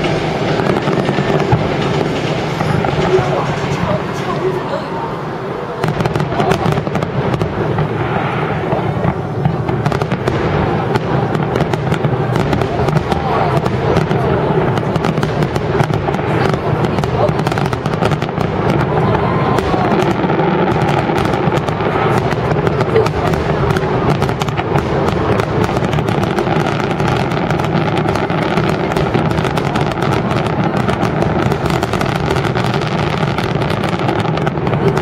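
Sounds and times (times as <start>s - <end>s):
firework shells bursting: 0.0s - 4.3s, 5.8s - 35.0s
firework crackling: 0.0s - 35.0s.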